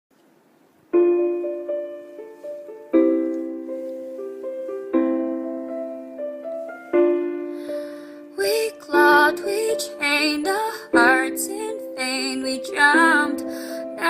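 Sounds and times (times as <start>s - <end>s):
piano playing slow chords: 0.9s - 14.0s.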